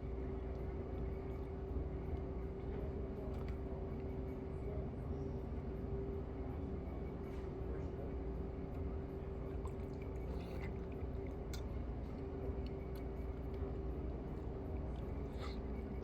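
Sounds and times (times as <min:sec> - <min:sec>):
restaurant background hum: 0:00.0 - 0:16.0.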